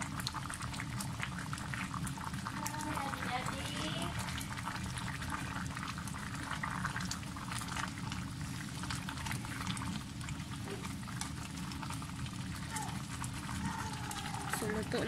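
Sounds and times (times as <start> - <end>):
broth bubbling at a boil: 0.0 - 15.0.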